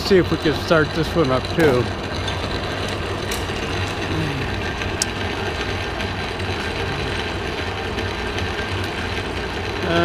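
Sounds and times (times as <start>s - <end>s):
drill press motor hum: 0.0s - 10.0s.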